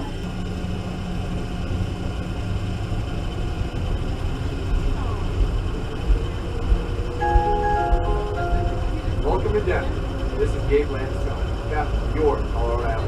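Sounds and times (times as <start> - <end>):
train rumbling from inside: 0.0 - 13.0.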